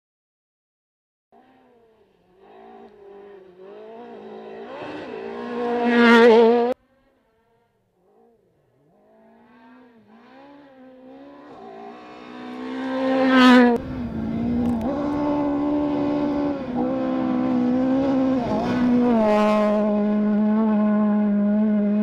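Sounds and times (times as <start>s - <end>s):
rally car engine revving high: 1.4s - 22.0s.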